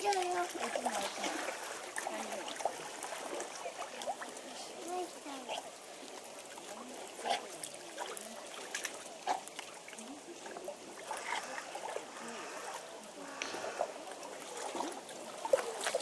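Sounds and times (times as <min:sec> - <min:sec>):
faint voices talking: 0:00.0 - 0:16.0
water trickling and splashing: 0:00.0 - 0:16.0.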